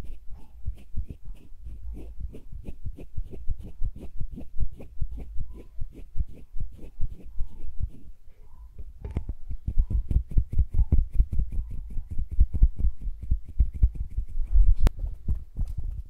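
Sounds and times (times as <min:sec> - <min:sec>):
hands rubbing against microphone: 0:00.0 - 0:08.2, 0:08.8 - 0:16.0.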